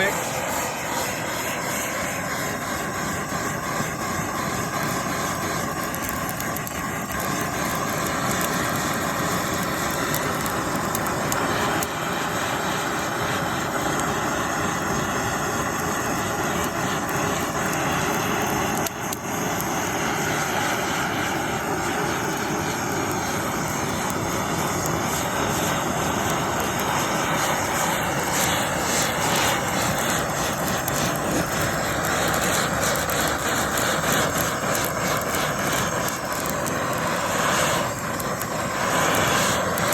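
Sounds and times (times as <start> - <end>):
blowtorch flame rushing: 0.0 - 39.9.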